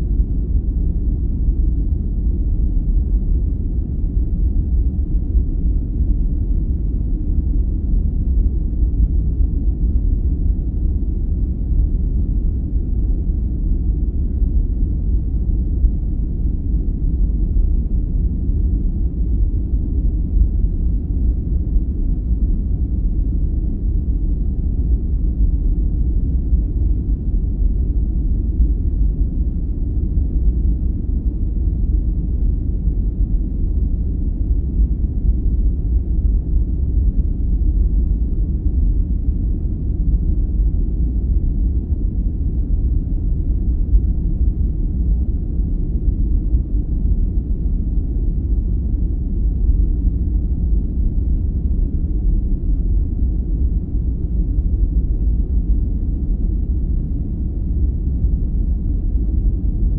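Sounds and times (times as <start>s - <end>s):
deep even rumble noise: 0.0s - 59.9s.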